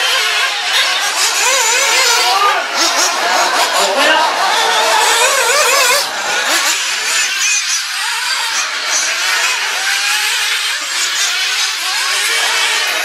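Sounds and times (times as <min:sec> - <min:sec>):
rc car engines buzzing: 0:00.0 - 0:13.0.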